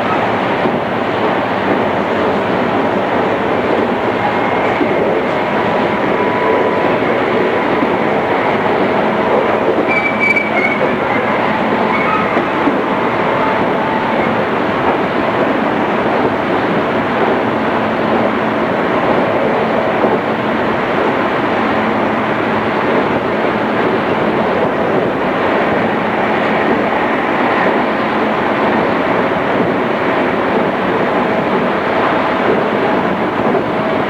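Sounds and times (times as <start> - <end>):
train wheels rumbling: 0.0 - 34.0.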